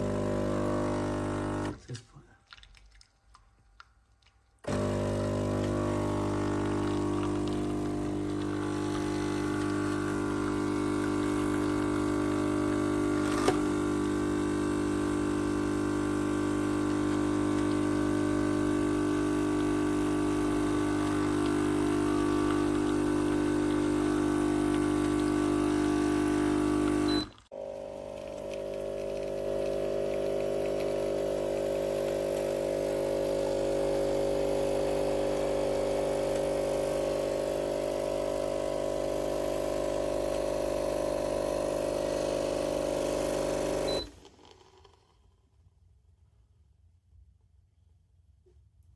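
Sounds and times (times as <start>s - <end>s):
espresso machine pump humming: 0.0s - 1.8s, 4.7s - 45.1s.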